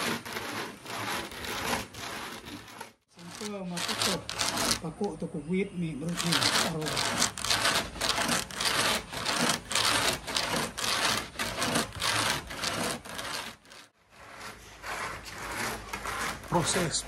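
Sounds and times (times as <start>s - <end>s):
rhythmic rasping grating: 0.0s - 5.2s, 6.0s - 17.0s.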